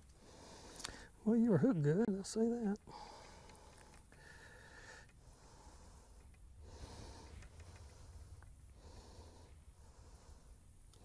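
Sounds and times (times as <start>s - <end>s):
faint breathing: 0.0s - 1.2s, 2.8s - 11.0s.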